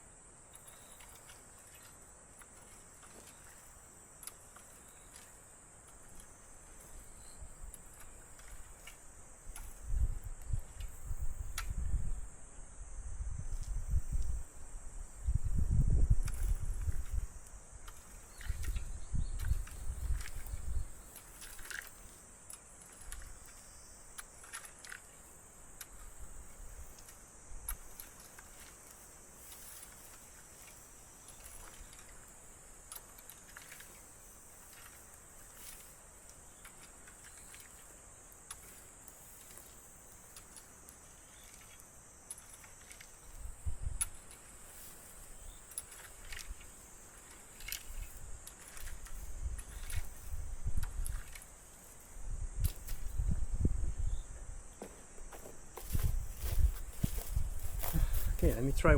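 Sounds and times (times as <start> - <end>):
low rumbles of handling or wind: 0.4 - 58.9
high-pitched insect chirring: 0.5 - 1.9, 9.6 - 58.9.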